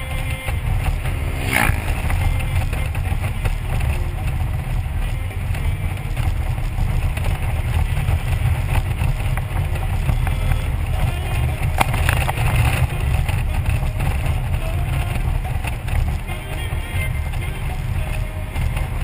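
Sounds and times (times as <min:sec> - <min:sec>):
motorcycle wind and road rumble: 0:00.0 - 0:19.0.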